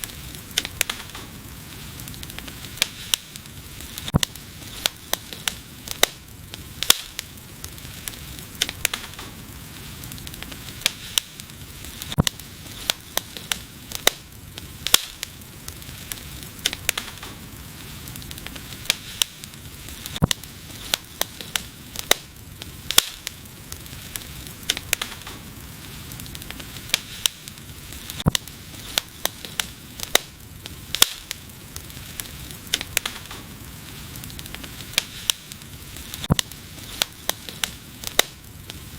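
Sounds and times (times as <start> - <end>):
wood fire crackling and hissing: 0.0 - 38.9.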